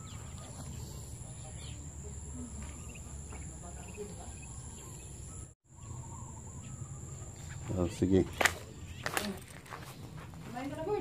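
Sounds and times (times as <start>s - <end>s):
faint distant sounds: 0.0s - 11.0s.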